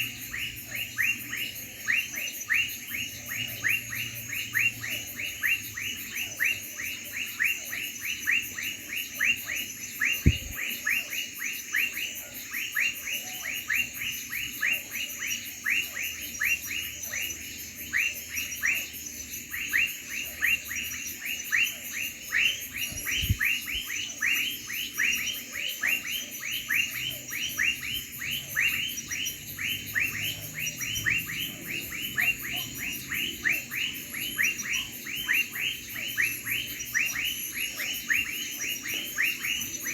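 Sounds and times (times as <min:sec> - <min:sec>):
crickets chirping: 0:00.0 - 0:39.9
lower falling insect call: 0:00.0 - 0:39.9.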